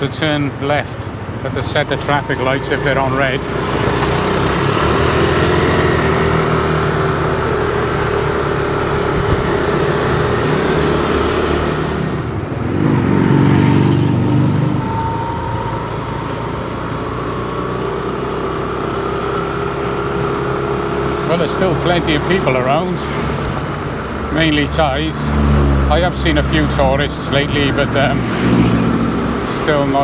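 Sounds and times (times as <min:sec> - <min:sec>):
car engine hum: 0:00.0 - 0:30.0
road noise inside moving car: 0:00.0 - 0:30.0.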